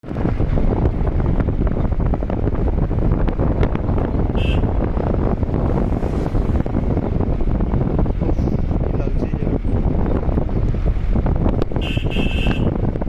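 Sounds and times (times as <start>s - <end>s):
vehicle rumble: 0.0s - 13.0s
wind buffeting microphone: 0.0s - 13.0s.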